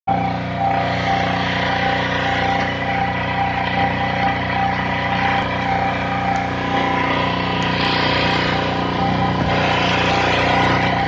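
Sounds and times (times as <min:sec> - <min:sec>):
motorboat engine running: 0:00.1 - 0:11.0.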